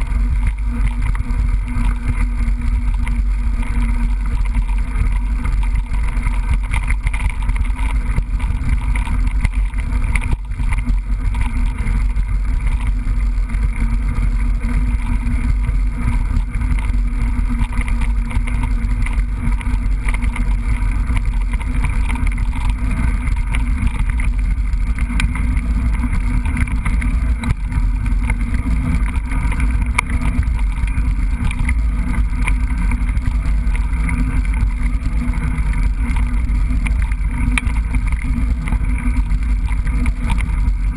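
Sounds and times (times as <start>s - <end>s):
bike rattles and knocks: 0.0s - 40.9s
wind rumble on microphone: 0.0s - 40.9s.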